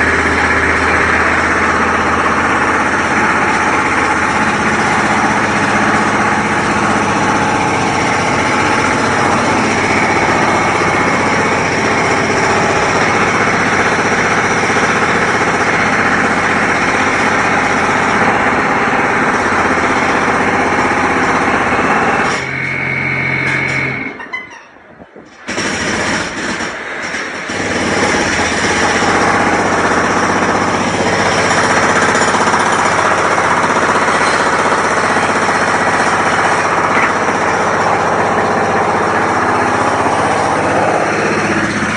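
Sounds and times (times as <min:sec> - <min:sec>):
machine hammering rapidly: 0:00.0 - 0:24.1, 0:25.4 - 0:41.9.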